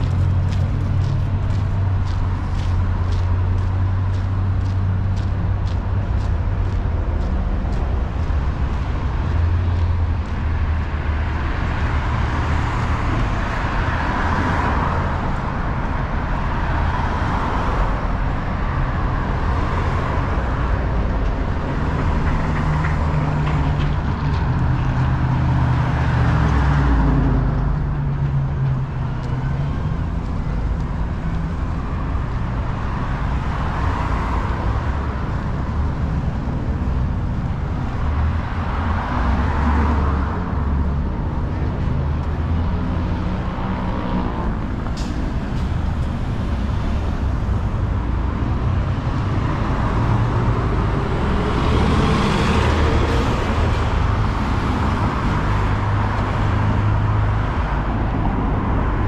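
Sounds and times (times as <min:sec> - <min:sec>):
cars passing and idling: 0:00.0 - 0:59.0
large vehicle engine humming: 0:00.0 - 0:59.0.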